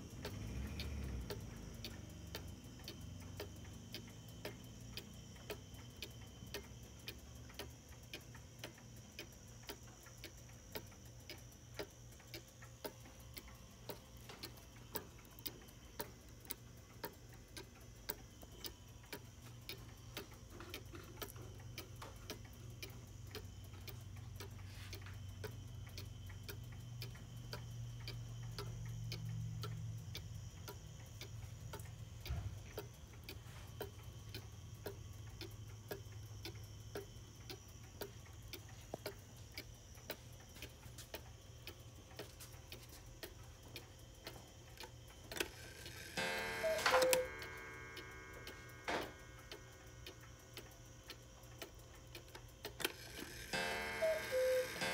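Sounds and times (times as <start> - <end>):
clock pendulum ticking: 0.0 - 54.9.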